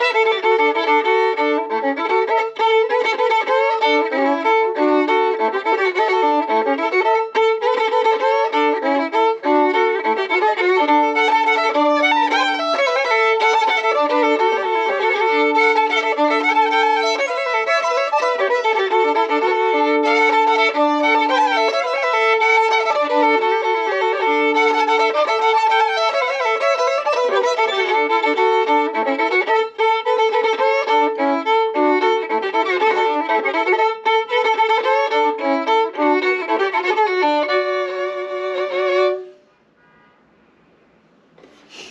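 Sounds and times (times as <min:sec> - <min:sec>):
fast fiddle tune: 0:00.0 - 0:39.3.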